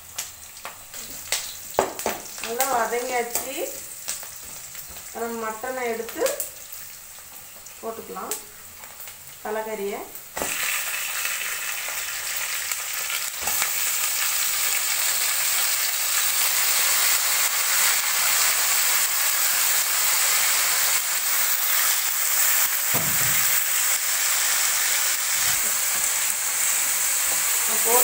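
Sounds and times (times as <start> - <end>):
meat sizzling in hot oil: 0.0 - 28.0.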